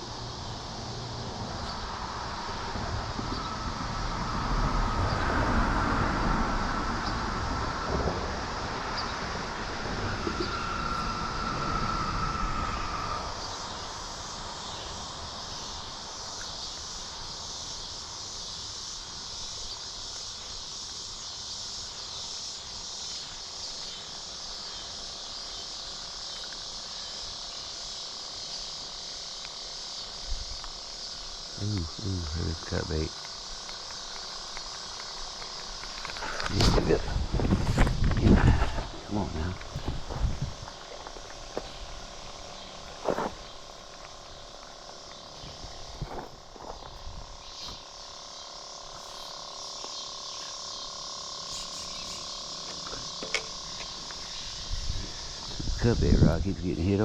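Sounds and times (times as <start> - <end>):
crickets chirping: 0.0 - 57.0
steady whine: 0.0 - 57.0.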